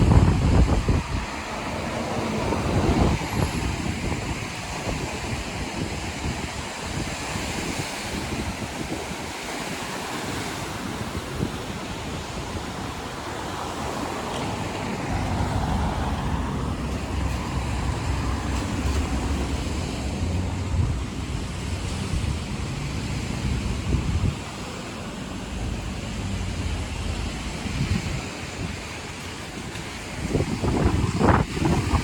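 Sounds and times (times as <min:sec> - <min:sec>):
lake water washing on shore: 0:00.0 - 0:32.0
traffic on wet road: 0:00.0 - 0:32.0
wind buffeting microphone: 0:00.0 - 0:32.0.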